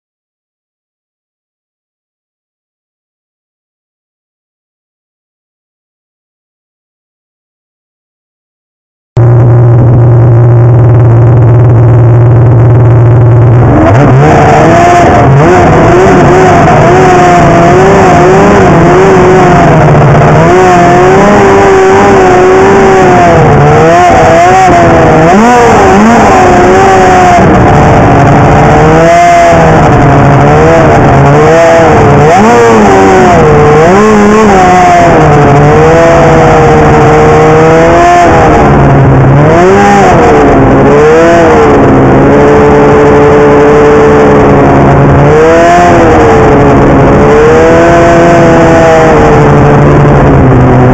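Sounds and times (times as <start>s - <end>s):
snowmobile engine revving: 9.2s - 50.9s.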